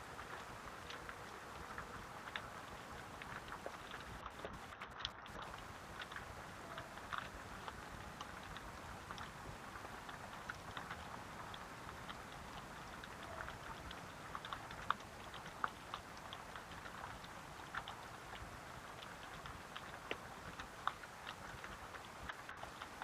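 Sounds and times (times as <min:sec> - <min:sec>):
drops dripping on a surface: 0:00.0 - 0:23.0
steady rain falling: 0:00.0 - 0:23.0.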